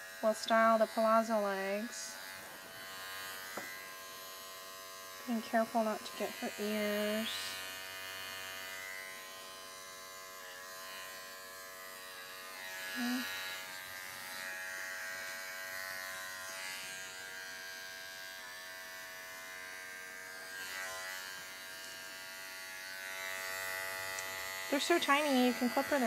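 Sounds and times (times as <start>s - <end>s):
electric dog clipper buzzing: 0.0s - 26.0s.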